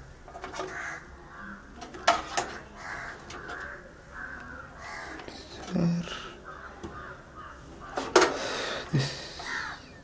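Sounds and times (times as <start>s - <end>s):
crows cawing: 0.5s - 10.0s.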